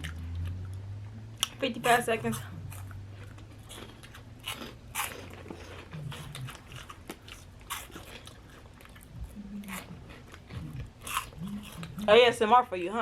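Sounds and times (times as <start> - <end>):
crunching and chewing snacks: 0.0 - 0.8, 1.4 - 12.4.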